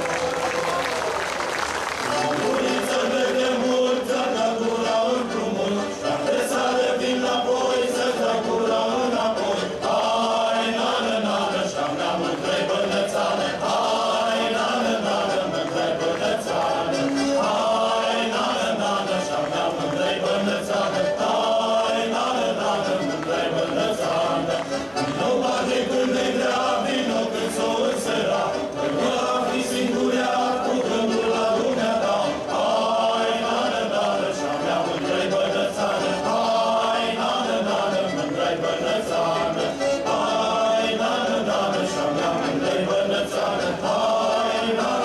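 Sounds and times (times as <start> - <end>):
choir singing: 2.0 - 45.0.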